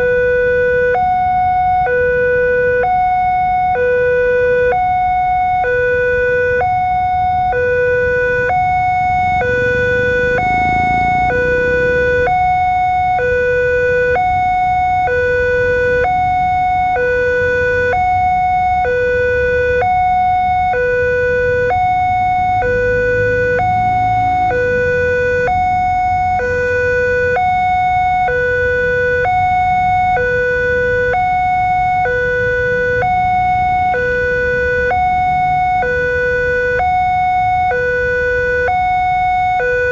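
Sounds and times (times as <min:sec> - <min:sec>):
traffic engines idling: 0:00.0 - 0:39.9
two-tone crossing alarm: 0:00.0 - 0:39.9.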